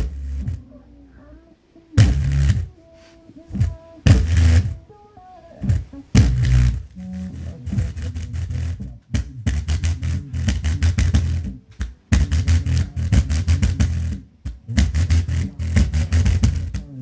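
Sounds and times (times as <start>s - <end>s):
deep bass pulses from subwoofer: 0.0s - 0.8s, 2.0s - 2.7s, 3.5s - 4.8s, 5.6s - 17.0s.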